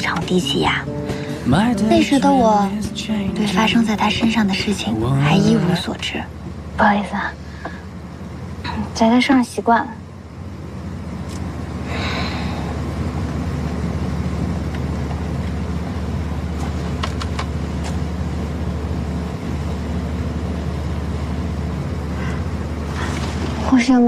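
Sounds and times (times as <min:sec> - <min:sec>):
car engine rumble: 0:00.0 - 0:24.0
road noise inside car: 0:00.0 - 0:24.0.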